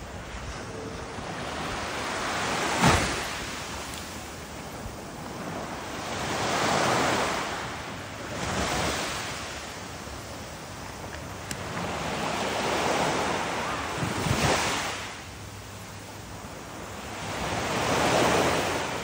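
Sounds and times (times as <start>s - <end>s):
small waves breaking on shore: 0.0s - 19.0s.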